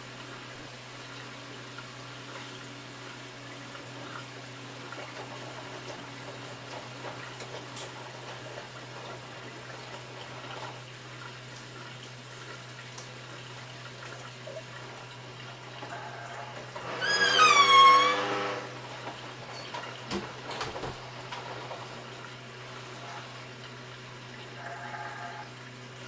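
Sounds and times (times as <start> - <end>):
washing machine humming: 0.0 - 26.0
water flowing: 0.0 - 26.0.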